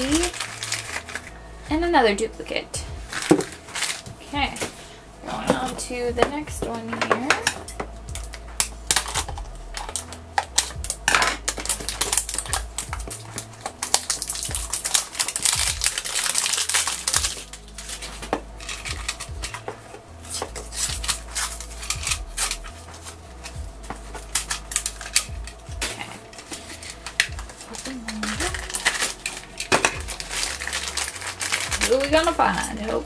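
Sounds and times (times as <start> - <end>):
plastic wrap crinkling and tearing: 0.0 - 1.7, 3.0 - 5.8, 7.1 - 33.0.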